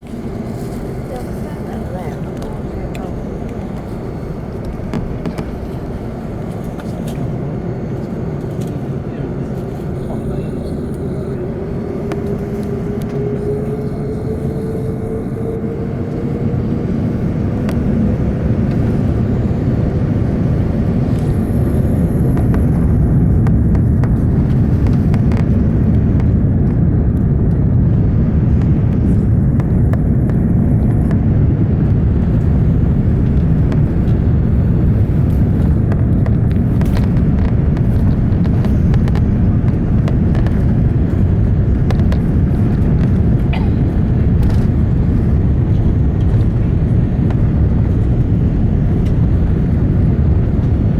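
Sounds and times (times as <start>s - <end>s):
airplane cabin low rumble: 0.0s - 50.9s.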